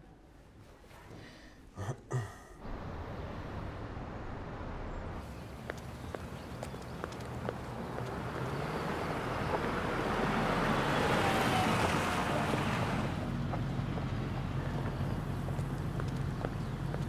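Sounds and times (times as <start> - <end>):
car engine and tyre noise: 2.7 - 17.0.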